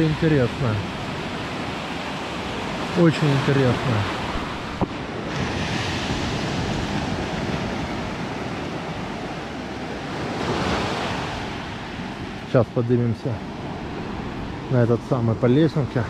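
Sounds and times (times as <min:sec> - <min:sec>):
surf washing on shingle beach: 0:00.0 - 0:16.0.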